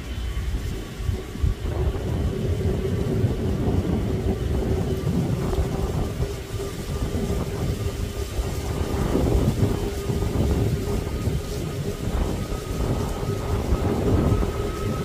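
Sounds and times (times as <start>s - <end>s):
distant jet engines humming: 0.0s - 15.0s
low rumble: 0.0s - 15.0s.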